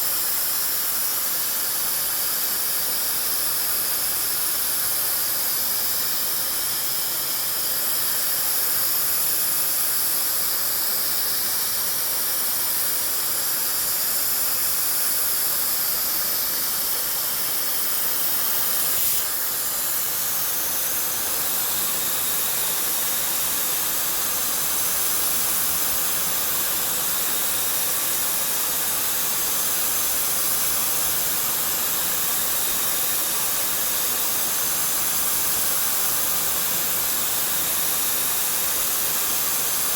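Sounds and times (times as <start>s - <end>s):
machine cutting hiss: 0.0s - 39.9s.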